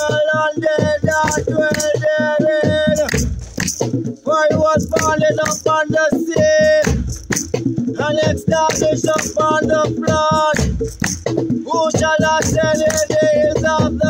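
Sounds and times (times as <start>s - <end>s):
maraca shaking: 0.0s - 14.0s.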